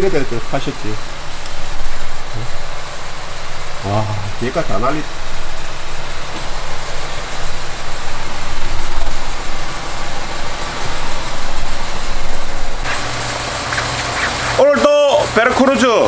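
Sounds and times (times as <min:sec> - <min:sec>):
steady low hum: 0:00.0 - 0:16.0
vehicle engine running: 0:00.0 - 0:16.0.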